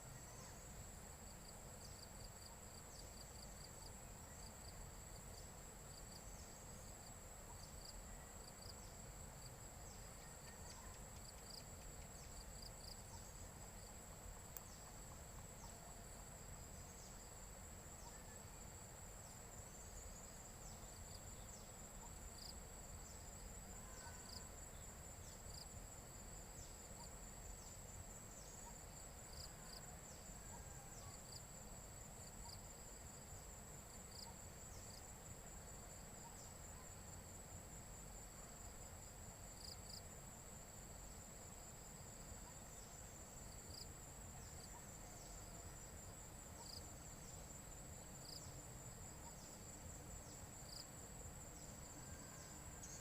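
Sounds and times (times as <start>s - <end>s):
insect chirps: 0.0s - 53.0s
insects trilling drone: 0.0s - 53.0s.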